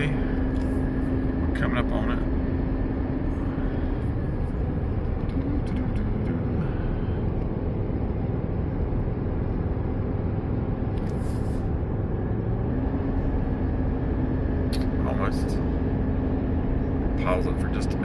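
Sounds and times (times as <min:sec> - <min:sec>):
road and engine rumble in cab: 0:00.0 - 0:18.0.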